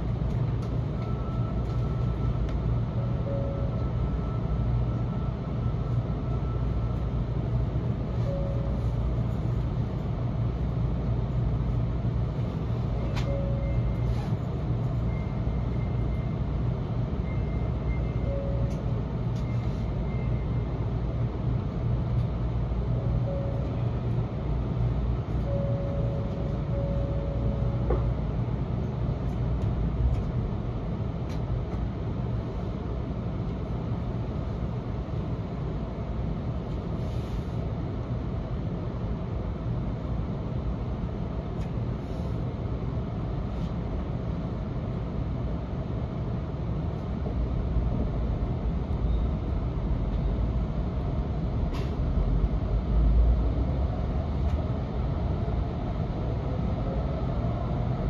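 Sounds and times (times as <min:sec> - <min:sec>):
train equipment low hum: 0:00.0 - 0:58.0.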